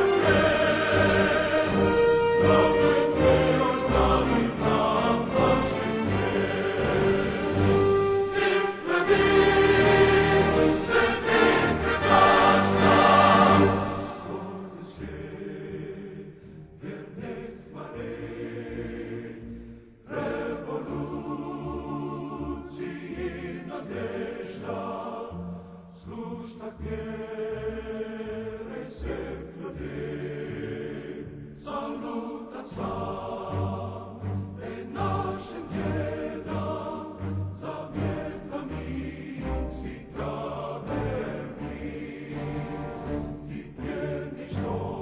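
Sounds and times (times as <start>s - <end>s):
choir singing sustained chords: 0.0s - 45.0s.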